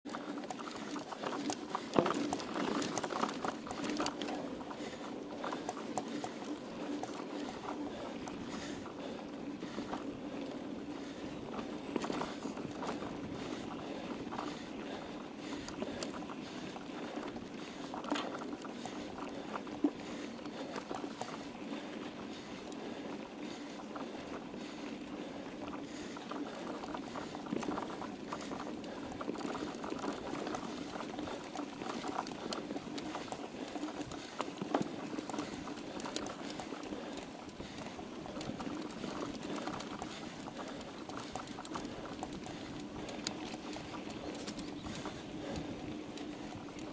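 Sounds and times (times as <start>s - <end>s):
bike rattling and clicking: 0.0s - 46.9s
bike tyres crackling on dirt: 0.1s - 46.9s.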